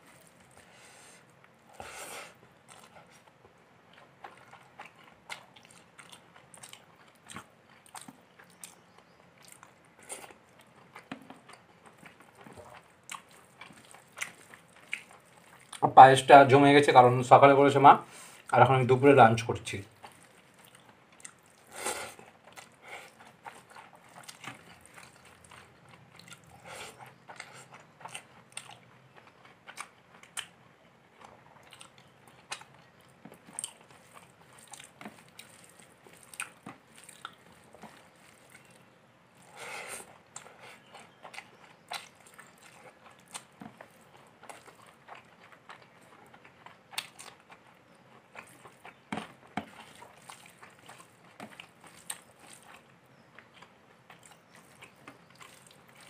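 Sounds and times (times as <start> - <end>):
person chewing food: 0.0 - 15.8, 19.9 - 56.0.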